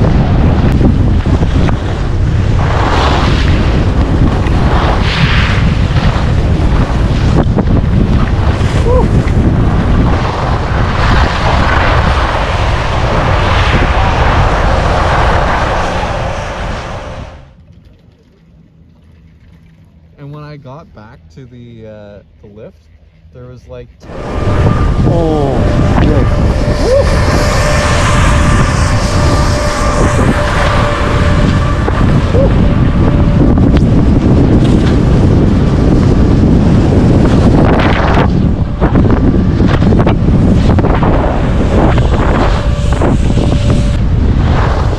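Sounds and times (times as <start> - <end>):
wind buffeting microphone: 0.0 - 17.6, 24.0 - 44.9.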